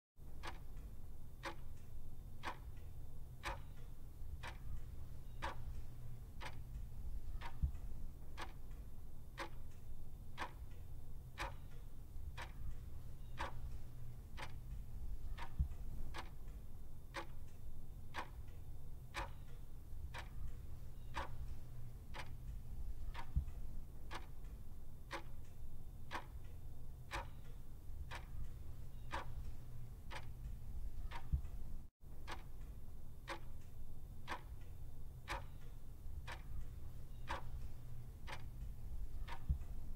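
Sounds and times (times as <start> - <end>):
clock ticking: 0.2 - 39.9
low steady hum: 0.2 - 39.9.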